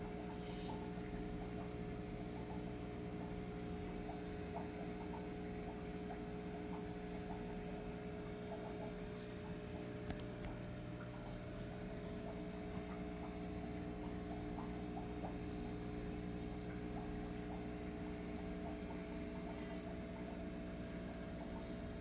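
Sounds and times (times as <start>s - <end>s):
aquarium equipment humming: 0.0s - 22.0s
water bubbling: 0.0s - 22.0s.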